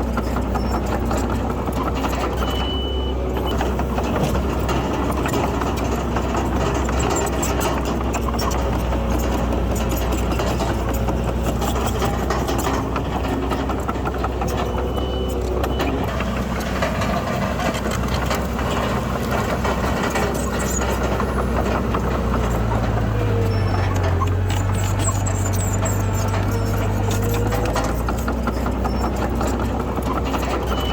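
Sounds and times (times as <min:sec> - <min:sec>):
heavy machinery diesel engines: 0:00.0 - 0:30.9.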